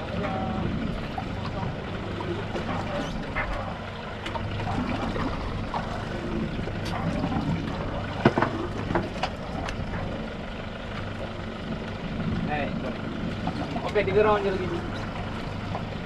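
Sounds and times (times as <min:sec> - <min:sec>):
boat engine humming: 0:00.0 - 0:16.0
water noise: 0:00.0 - 0:16.0.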